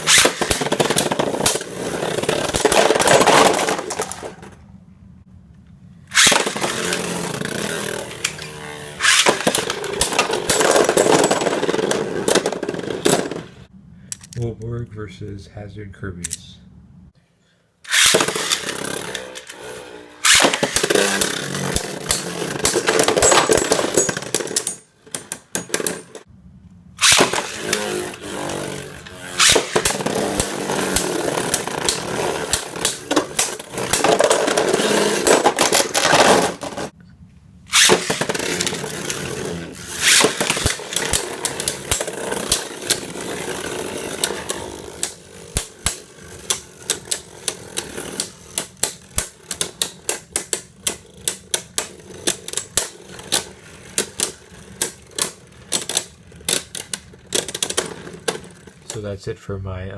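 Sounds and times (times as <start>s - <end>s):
spinning tops whirring and clattering: 0.0s - 4.6s, 6.1s - 13.7s, 17.9s - 26.3s, 27.0s - 37.0s, 37.7s - 59.0s.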